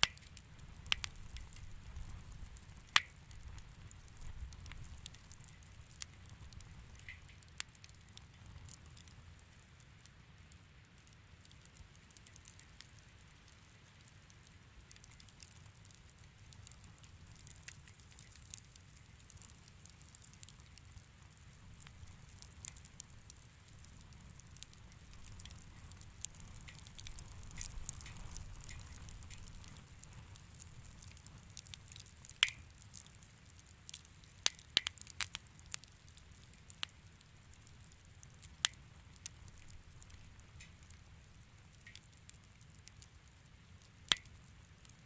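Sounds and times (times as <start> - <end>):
low fire rumble: 0.0 - 45.0
wood fire crackling: 0.0 - 45.0.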